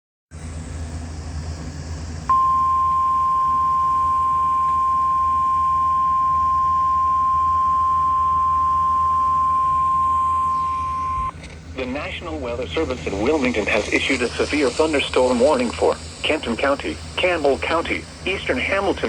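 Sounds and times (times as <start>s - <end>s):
radio receiver hiss and hum: 1.6s - 19.0s
steady alarm tone: 2.3s - 19.0s.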